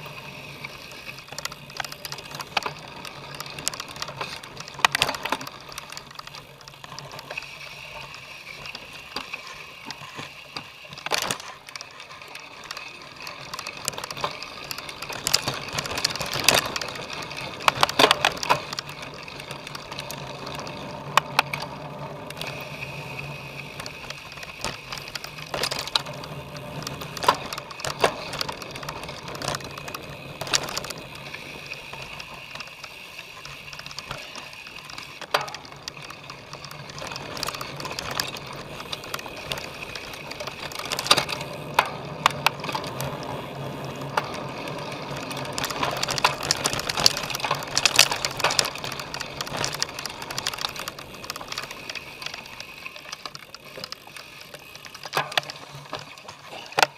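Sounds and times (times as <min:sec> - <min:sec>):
bike chain and frame rattling: 0:00.0 - 0:56.9.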